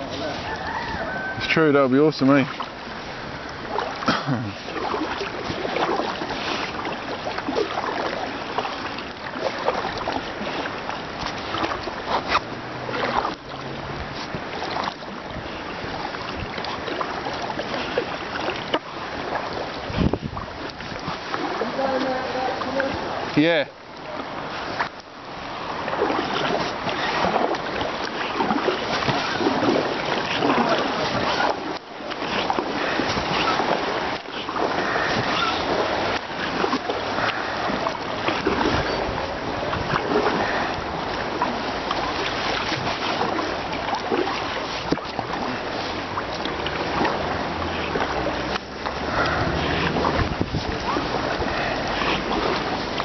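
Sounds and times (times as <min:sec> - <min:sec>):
water splashing around kayak: 0:00.0 - 0:53.0.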